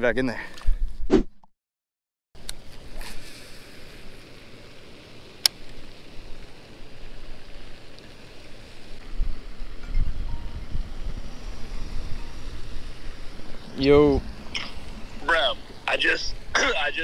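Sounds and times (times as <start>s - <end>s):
rushing outdoor noise: 2.4s - 17.0s.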